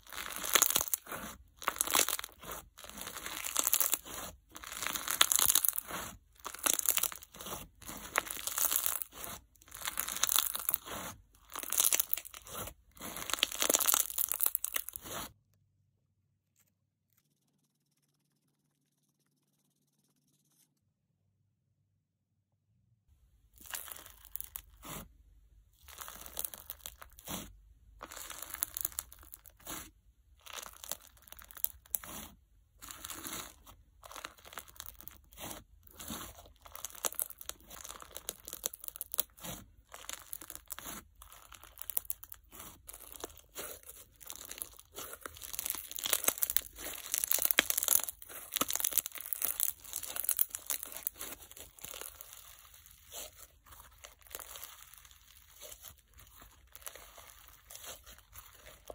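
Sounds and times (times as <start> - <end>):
slime beads crackling and popping: 0.0 - 15.3, 23.6 - 25.1, 25.8 - 58.9.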